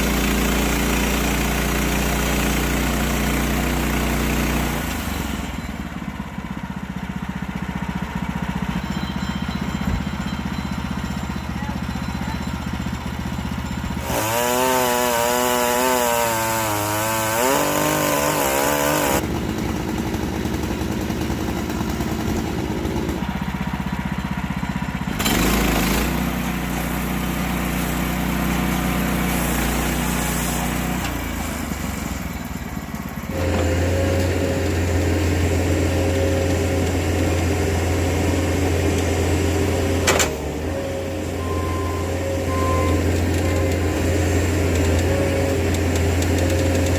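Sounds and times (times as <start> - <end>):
saw cutting through log: 0.0 - 5.9, 12.4 - 46.9
sawmill engine running: 0.0 - 46.9.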